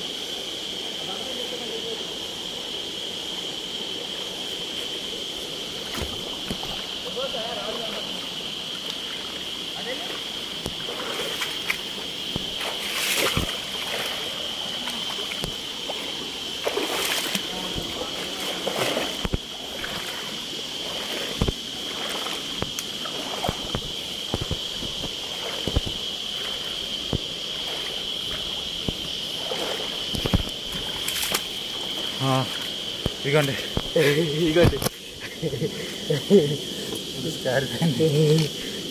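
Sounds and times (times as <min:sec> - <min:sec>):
forest stream: 0:00.0 - 0:38.9
insects droning: 0:00.0 - 0:38.9
water splashes: 0:05.6 - 0:38.9.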